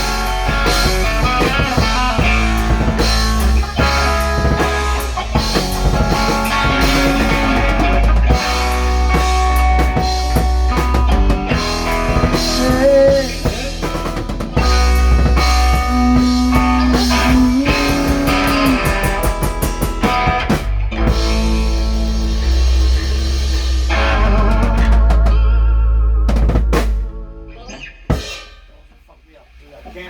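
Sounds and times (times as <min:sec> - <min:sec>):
drum kit steady beat: 0:00.0 - 0:25.5, 0:26.3 - 0:27.2, 0:28.1 - 0:30.0
electric guitar bending notes: 0:00.0 - 0:28.4
bass: 0:00.0 - 0:30.0.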